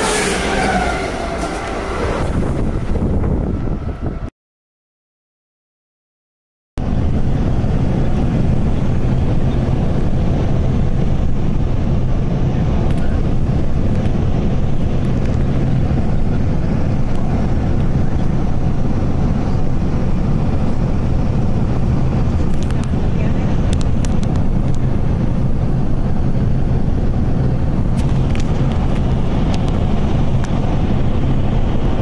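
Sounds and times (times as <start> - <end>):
car road and wind rumble: 0.0 - 4.3, 6.8 - 32.0.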